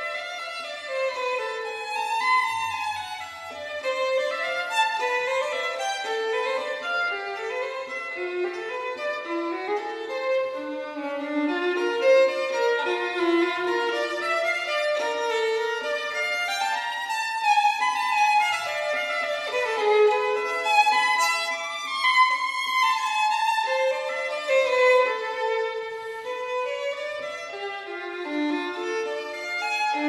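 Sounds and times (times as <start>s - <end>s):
violin melody: 0.0s - 30.0s.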